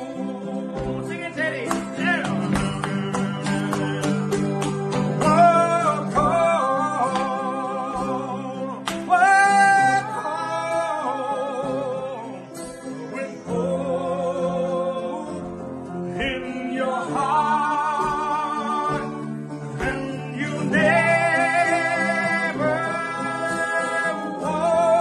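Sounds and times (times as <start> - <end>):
acoustic guitar: 0.0 - 25.0
man singing: 0.0 - 25.0
piano: 0.0 - 25.0.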